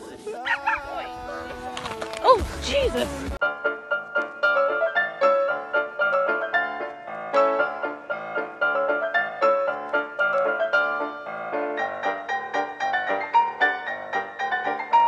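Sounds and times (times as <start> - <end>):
piano music: 0.4 - 15.0.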